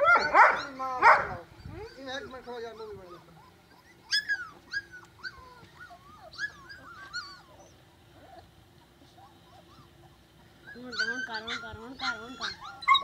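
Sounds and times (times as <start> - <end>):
puppy whimpering: 0.0 - 1.0, 1.6 - 13.0.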